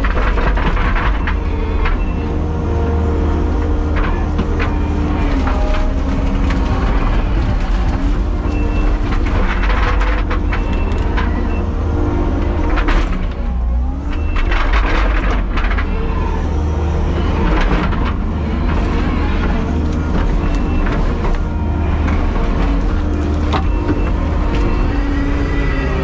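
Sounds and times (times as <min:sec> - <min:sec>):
clunks and knocks: 0:00.0 - 0:26.0
diesel engine running: 0:00.0 - 0:26.0.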